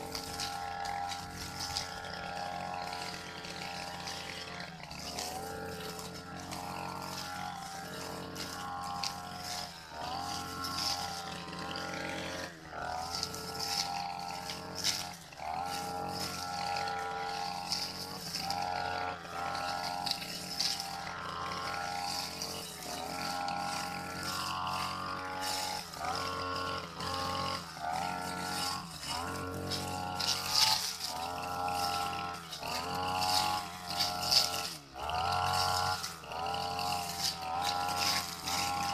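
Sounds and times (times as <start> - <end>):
blade cutting grass: 0.0 - 38.9
brush cutter engine running: 0.0 - 38.9.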